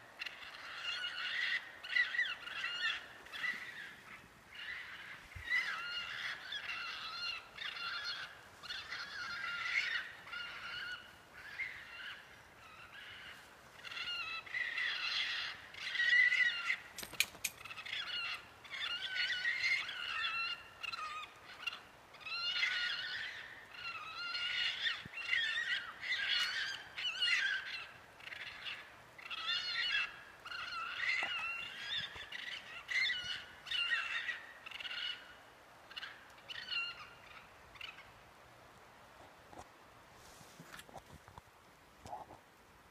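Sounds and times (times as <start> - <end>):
animals calling in chorus: 0.0 - 38.1.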